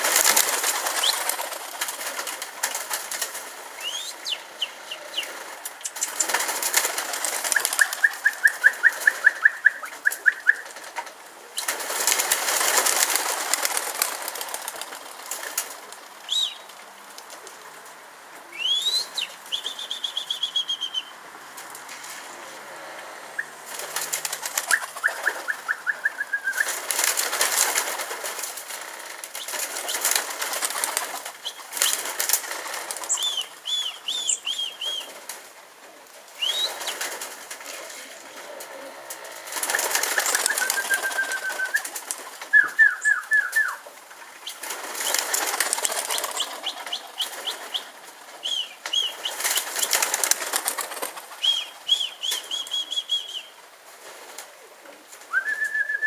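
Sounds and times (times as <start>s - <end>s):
pigeons flapping wings: 0.0s - 4.2s, 4.8s - 18.0s, 23.6s - 56.0s.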